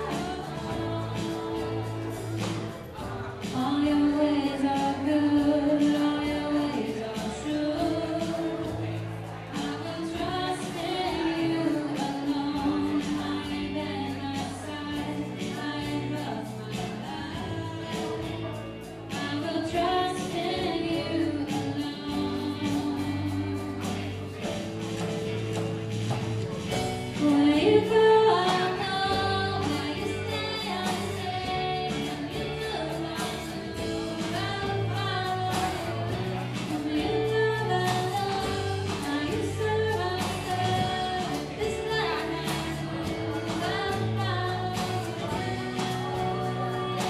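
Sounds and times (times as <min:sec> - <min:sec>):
people singing: 0:00.0 - 0:25.4, 0:26.7 - 0:47.0
live praise band playing: 0:00.0 - 0:47.0.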